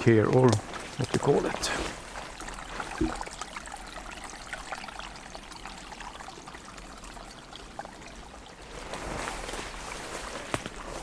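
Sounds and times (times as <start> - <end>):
stream trickling over stones: 0.0 - 11.0.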